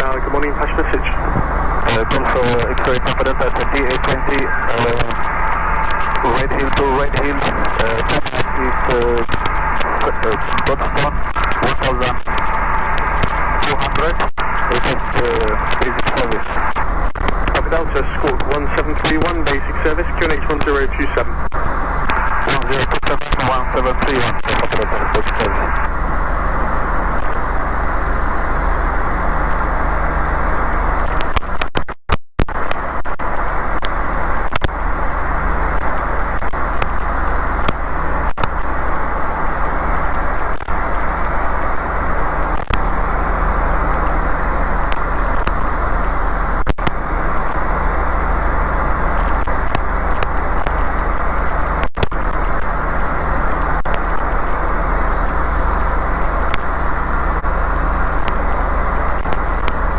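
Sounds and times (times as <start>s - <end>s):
aircraft cockpit engine and airflow: 0.0s - 59.9s.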